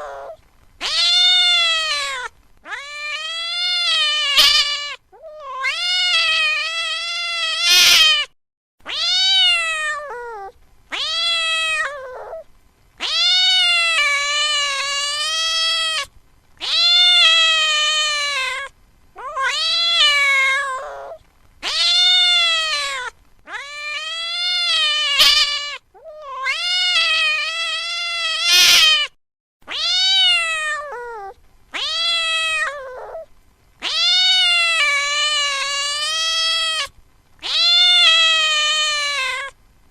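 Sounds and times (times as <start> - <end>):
cat meowing: 0.0 - 8.3, 8.9 - 39.6.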